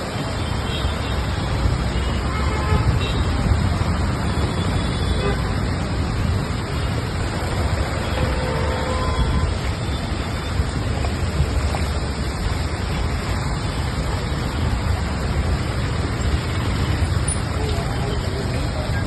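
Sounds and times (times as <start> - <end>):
traffic on a wet road: 0.0 - 19.0.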